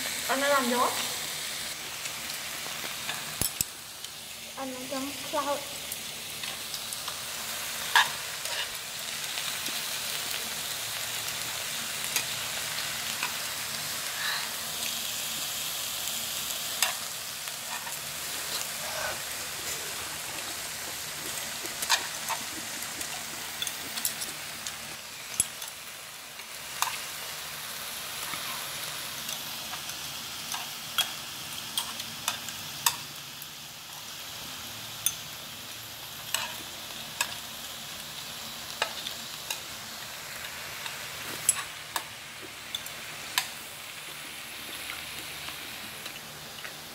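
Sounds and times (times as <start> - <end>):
meat sizzling on a grill plate: 0.0 - 46.9.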